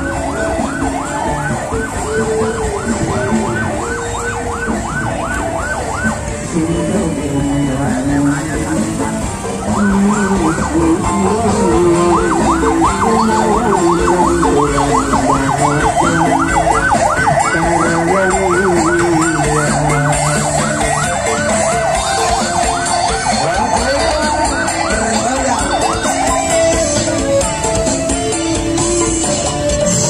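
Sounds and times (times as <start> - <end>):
ambulance siren yelp: 0.0 - 30.0.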